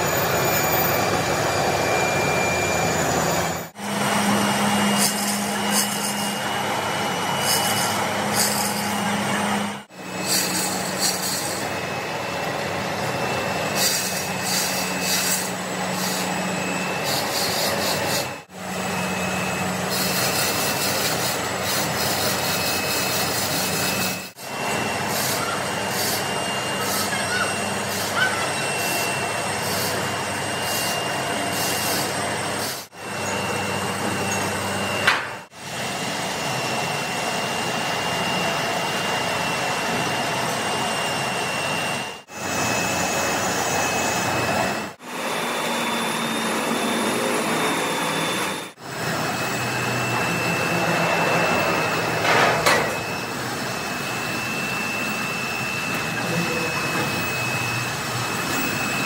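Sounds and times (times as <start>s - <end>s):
high whine: 0.0s - 59.0s
workshop machinery running: 0.0s - 59.0s.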